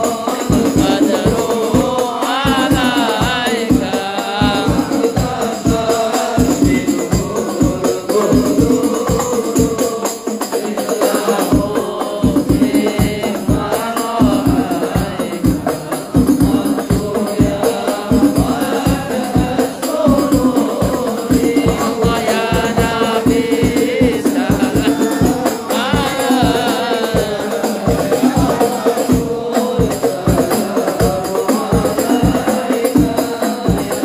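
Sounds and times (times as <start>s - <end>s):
frame drums beating: 0.0s - 34.0s
voices singing devotional song: 0.0s - 34.0s.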